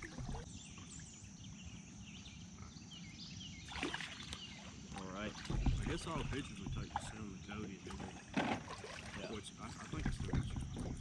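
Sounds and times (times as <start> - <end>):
small birds chirping: 0.0 - 11.0
wind and water rumble: 0.0 - 11.0.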